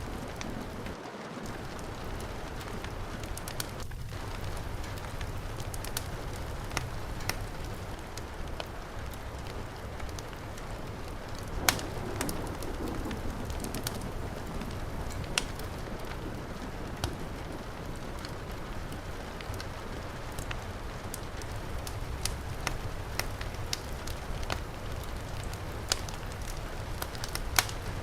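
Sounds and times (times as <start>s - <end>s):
heavy rain: 0.0s - 28.0s
wood fire crackling: 0.0s - 28.0s.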